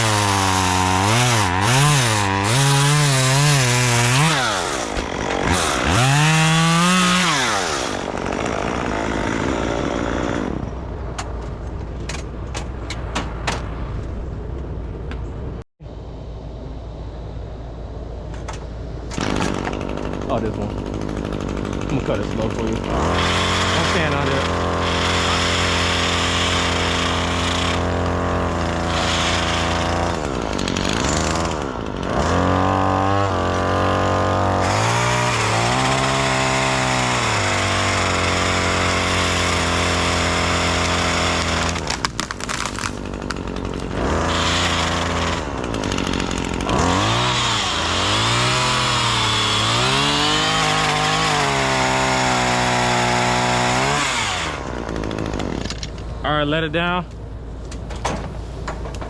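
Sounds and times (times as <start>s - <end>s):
chainsaw cutting into a tree: 0.0s - 10.7s, 19.1s - 56.0s.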